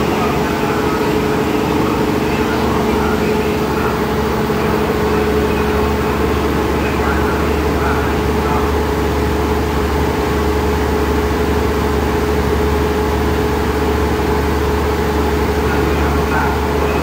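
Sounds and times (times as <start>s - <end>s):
diesel train engines idling: 0.0s - 17.0s.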